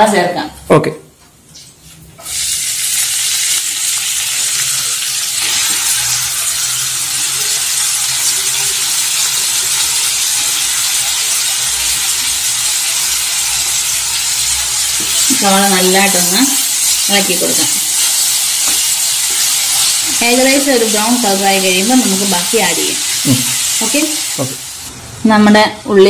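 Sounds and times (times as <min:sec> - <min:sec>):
onions sizzling in hot oil: 0:02.2 - 0:26.0.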